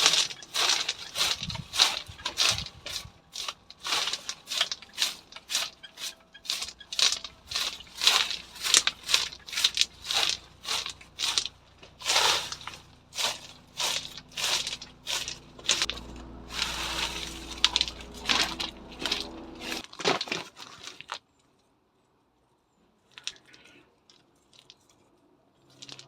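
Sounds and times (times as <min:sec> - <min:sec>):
crunching rustling in leaves: 0:00.0 - 0:21.1.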